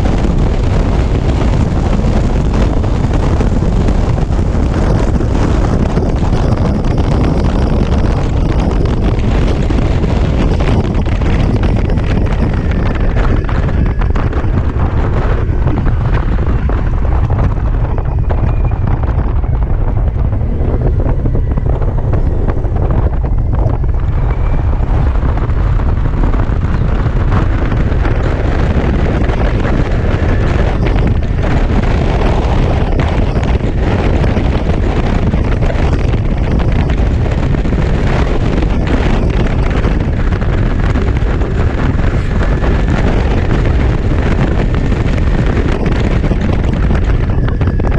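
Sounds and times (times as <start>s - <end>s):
tyre and road rumble: 0.0s - 47.9s
wind buffeting microphone: 0.0s - 47.9s.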